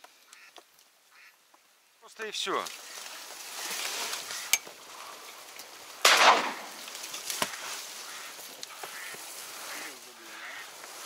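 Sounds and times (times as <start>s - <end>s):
rustling in reeds and boat: 0.0s - 6.0s, 6.6s - 11.0s.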